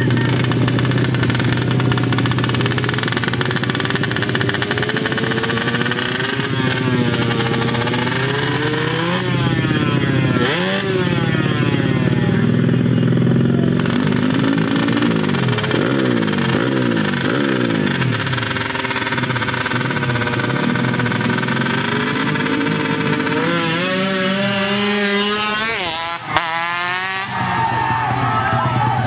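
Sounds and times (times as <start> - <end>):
motorcycle engines revving hard: 0.0 - 29.0.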